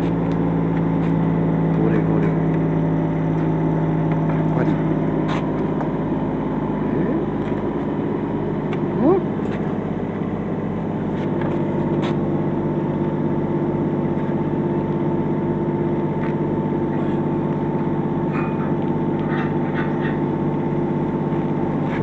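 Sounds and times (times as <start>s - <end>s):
engine-driven welder running: 0.0s - 22.0s.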